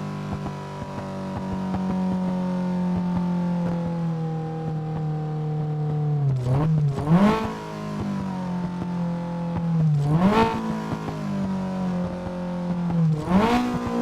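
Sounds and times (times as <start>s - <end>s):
car engine revving: 0.1s - 14.0s.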